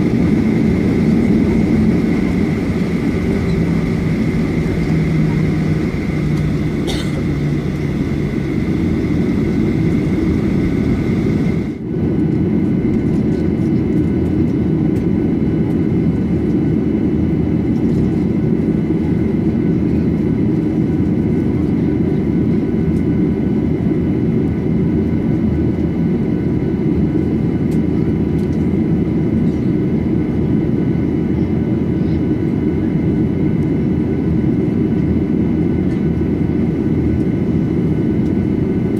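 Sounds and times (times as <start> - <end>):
aircraft cabin engine noise: 0.0 - 38.9.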